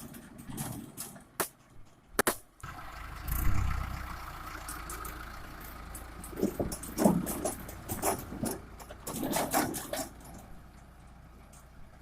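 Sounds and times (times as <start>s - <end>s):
diesel tractor engine rumbling: 0.0s - 12.0s.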